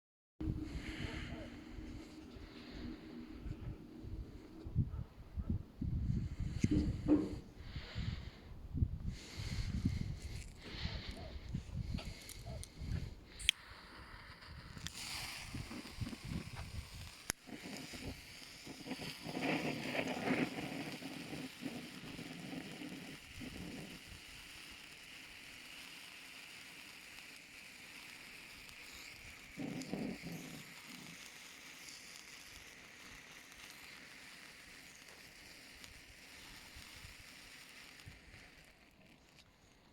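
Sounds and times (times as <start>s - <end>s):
firework fountain hissing: 0.4s - 4.7s, 5.8s - 39.9s.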